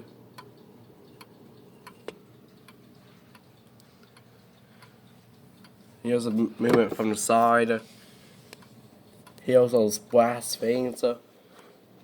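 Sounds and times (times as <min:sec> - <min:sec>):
wall clock ticking faintly: 0:00.0 - 0:11.0.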